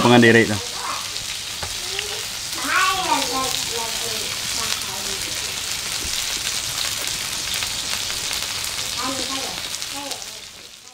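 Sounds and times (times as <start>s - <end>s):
food sizzling in a pan: 0.0s - 10.9s
wood fire crackling: 0.0s - 10.9s.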